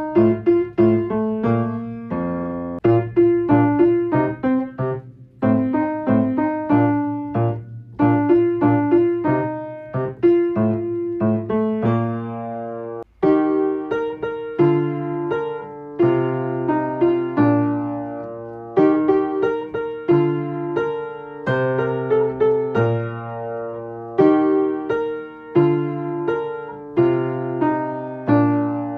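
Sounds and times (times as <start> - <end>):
solo piano: 0.0 - 28.9.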